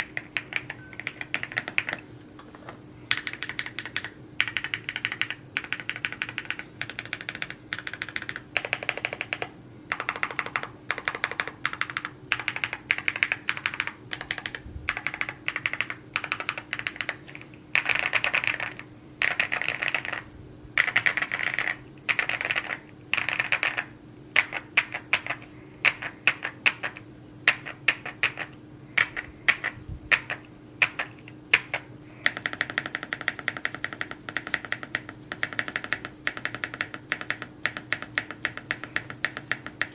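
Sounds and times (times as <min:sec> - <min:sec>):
mechanical keyboard typing: 0:00.0 - 0:02.0, 0:03.1 - 0:39.9.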